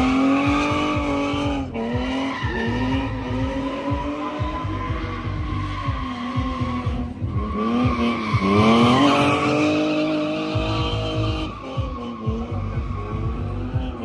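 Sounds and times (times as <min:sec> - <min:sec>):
car engine revving: 0:00.0 - 0:14.0
tyres squealing: 0:00.0 - 0:14.0.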